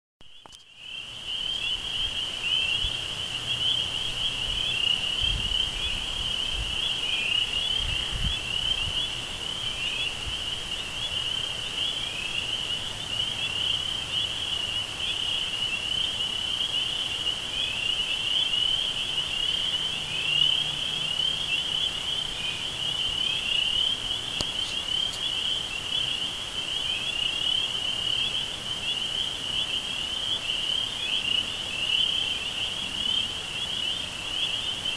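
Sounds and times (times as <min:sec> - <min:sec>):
insect chorus chirping: 0:00.2 - 0:34.9.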